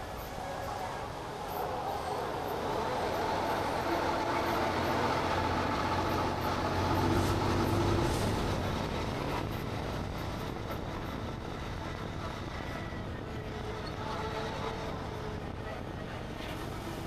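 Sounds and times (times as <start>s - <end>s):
diesel engine drone: 0.0s - 17.0s
road noise: 0.0s - 17.0s.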